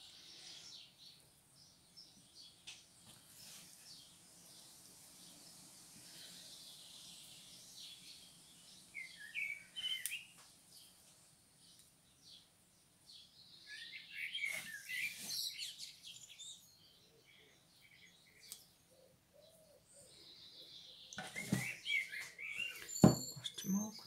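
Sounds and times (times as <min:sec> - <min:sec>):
small birds twittering: 0:00.0 - 0:24.0.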